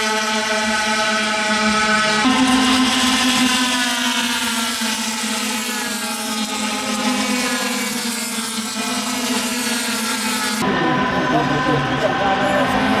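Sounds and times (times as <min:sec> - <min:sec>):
low drone: 0:00.0 - 0:13.0
two-stroke scooter engine running: 0:00.0 - 0:13.0.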